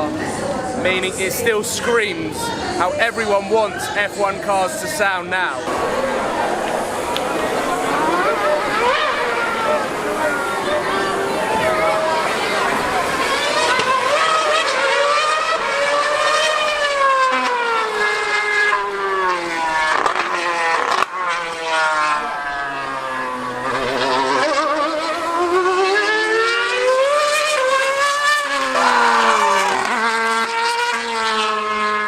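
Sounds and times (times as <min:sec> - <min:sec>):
racing car engine screaming: 0:03.7 - 0:32.0.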